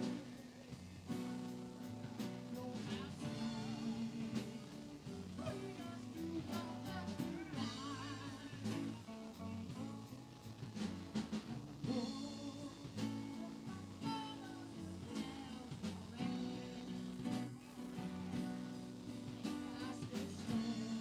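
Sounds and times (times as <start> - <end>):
live band with singing: 0.0 - 21.0.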